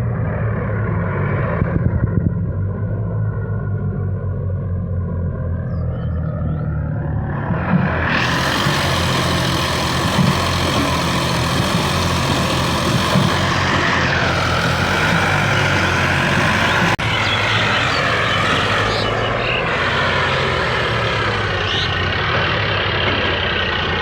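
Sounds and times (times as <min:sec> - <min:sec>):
tractor diesel engines running hard: 0:00.0 - 0:24.0.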